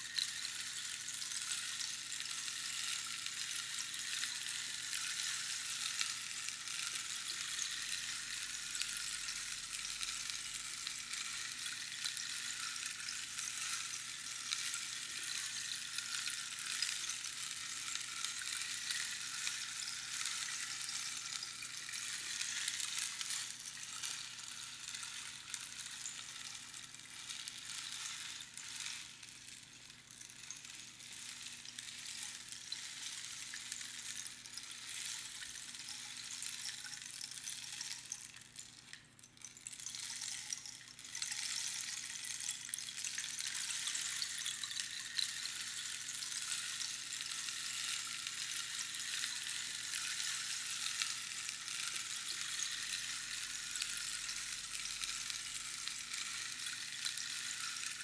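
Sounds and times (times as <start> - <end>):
rainstick pebbles trickling: 0.0 - 58.0.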